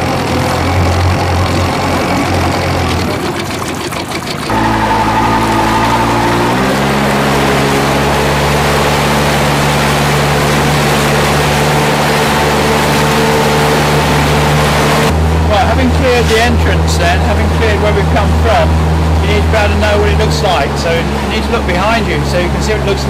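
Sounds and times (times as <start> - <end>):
boat wake wash: 0.0 - 23.0
outboard motor running: 0.0 - 23.0.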